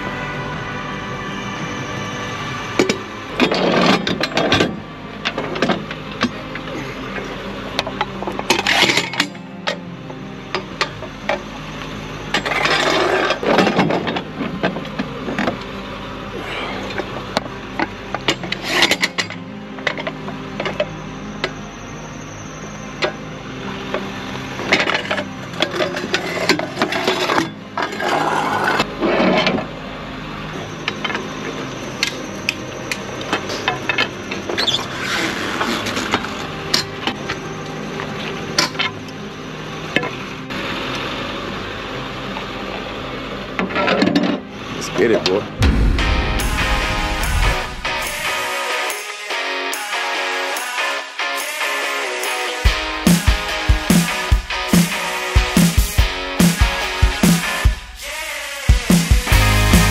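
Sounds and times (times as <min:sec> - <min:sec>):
background music: 0:00.0 - 0:59.9.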